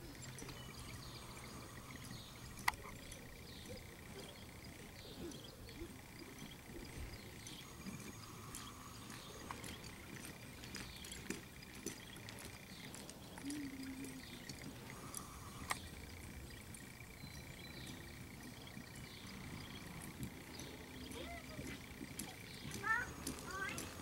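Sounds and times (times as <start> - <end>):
horse hoofbeats on soft dirt: 0.0 - 24.0.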